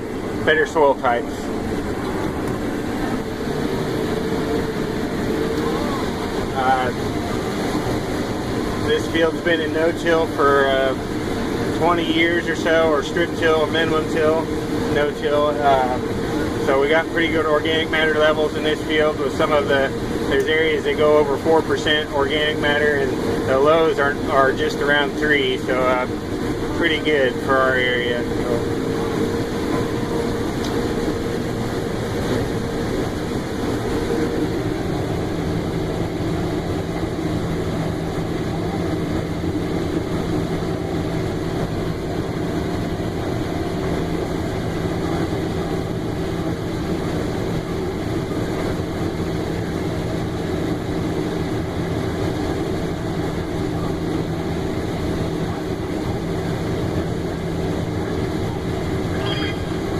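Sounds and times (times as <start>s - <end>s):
combine harvester hum from cab: 0.0s - 59.9s.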